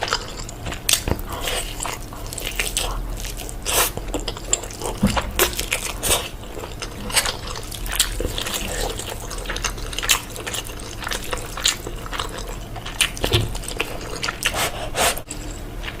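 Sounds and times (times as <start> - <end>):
wet chewing and mouth smacking: 0.0 - 16.0.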